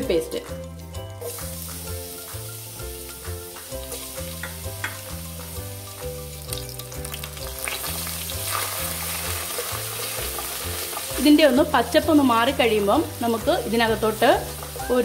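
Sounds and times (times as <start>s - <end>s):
paste sizzling in hot oil: 1.2s - 15.0s.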